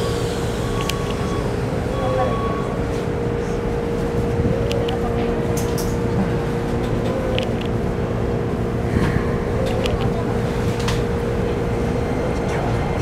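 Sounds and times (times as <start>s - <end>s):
train car electrical hum: 0.0s - 13.0s.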